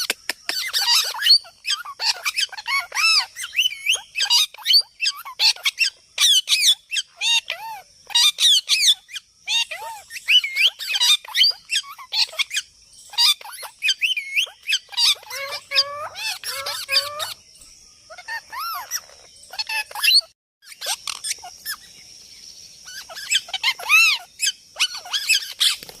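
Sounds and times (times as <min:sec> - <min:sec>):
parrot chirping and squawking: 0:00.0 - 0:17.4, 0:18.1 - 0:21.9, 0:22.8 - 0:26.0.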